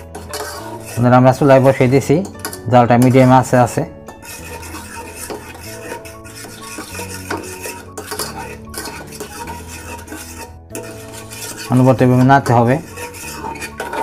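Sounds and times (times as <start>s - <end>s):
metal utensil scraping a saucepan: 0.0s - 14.0s.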